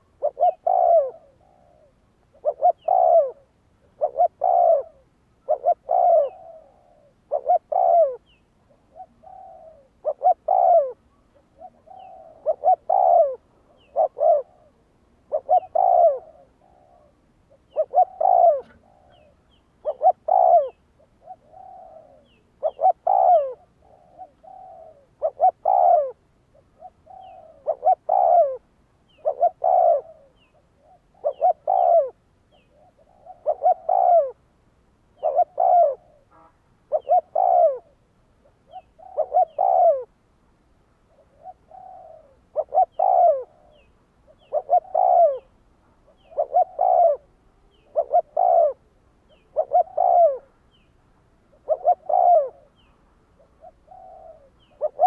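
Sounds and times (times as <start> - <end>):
dove cooing: 0.0 - 34.4, 35.2 - 36.3, 36.9 - 40.2, 41.0 - 50.8, 51.5 - 55.0.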